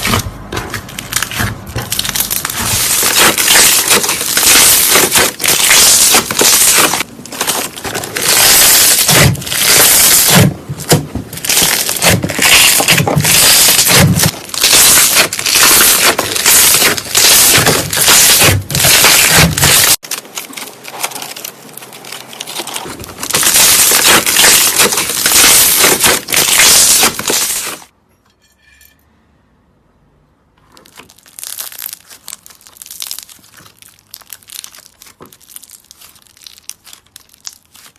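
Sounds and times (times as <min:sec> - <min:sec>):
putty crackling and popping: 0:00.0 - 0:27.9, 0:30.7 - 0:37.9.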